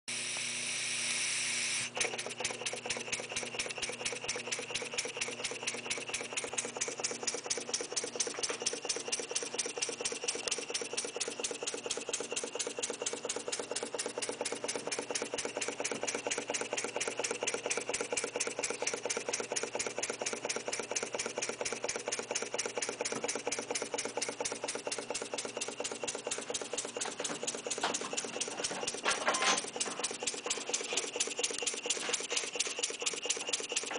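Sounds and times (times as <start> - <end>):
model engine exhaust puffs: 0.7 - 33.9.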